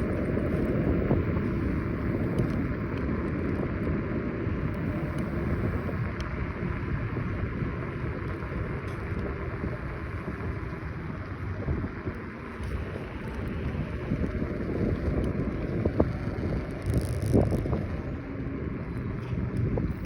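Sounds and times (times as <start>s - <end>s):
scooter road rumble: 0.0s - 20.0s
wind on microphone: 0.0s - 20.0s.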